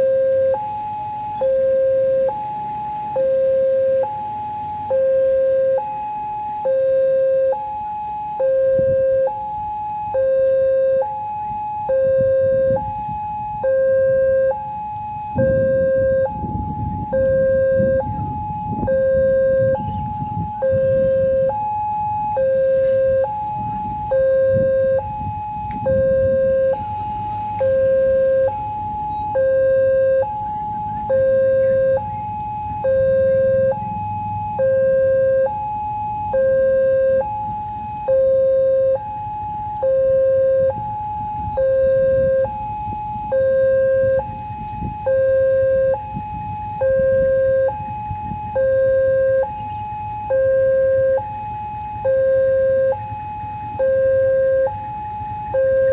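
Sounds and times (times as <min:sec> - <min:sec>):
level crossing two-tone alarm: 0:00.0 - 0:55.9
low traffic rumble: 0:00.0 - 0:55.9.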